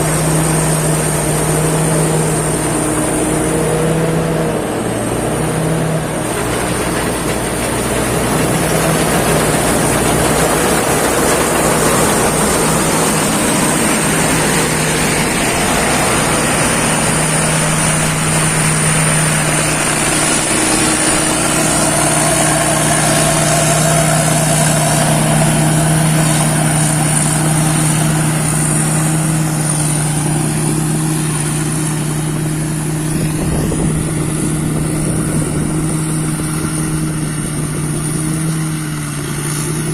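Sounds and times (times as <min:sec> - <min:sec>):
thin high whine: 0:00.0 - 0:38.1
harvester engine drone: 0:00.0 - 0:39.9
harvesting machinery rattle: 0:00.0 - 0:39.9.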